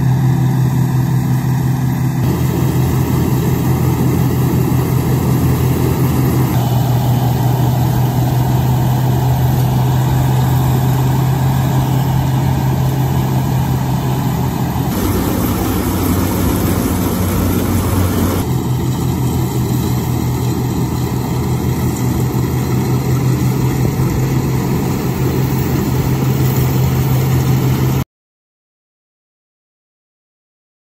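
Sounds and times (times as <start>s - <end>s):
combine engine hum: 0.0s - 28.0s.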